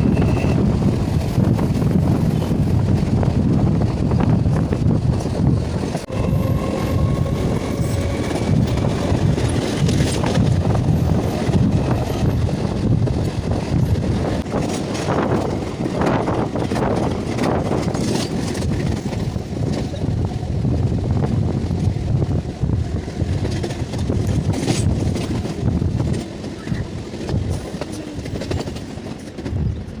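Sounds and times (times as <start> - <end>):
train rumbling: 0.0 - 30.0
wind buffeting microphone: 0.0 - 30.0.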